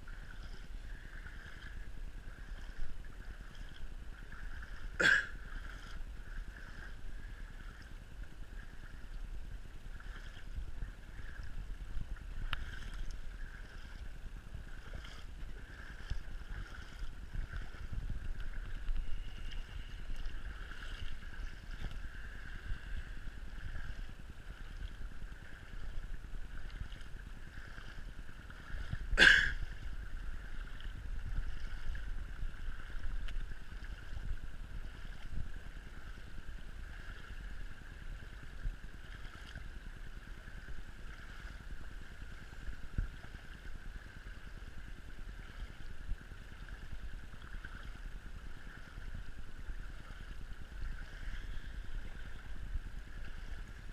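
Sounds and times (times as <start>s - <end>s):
floodwater flowing: 0.0s - 53.9s
wind: 0.0s - 53.9s.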